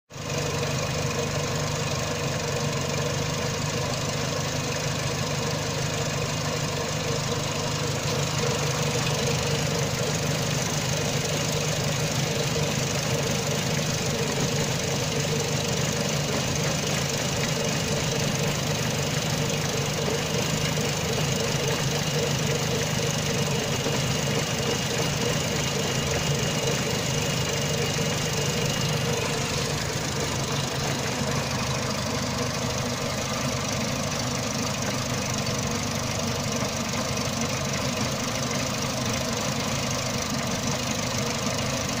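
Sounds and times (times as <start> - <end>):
car engine rough idle: 0.1 - 42.0.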